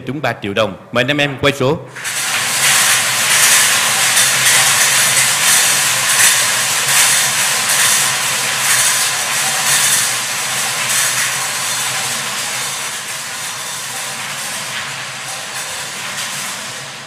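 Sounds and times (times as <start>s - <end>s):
balls rattling in spinning cages: 2.0s - 17.0s.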